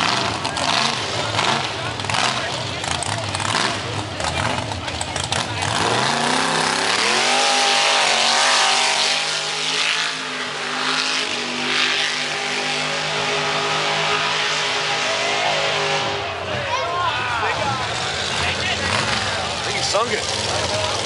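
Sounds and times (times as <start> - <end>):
truck engine revving high: 0.0 - 21.0.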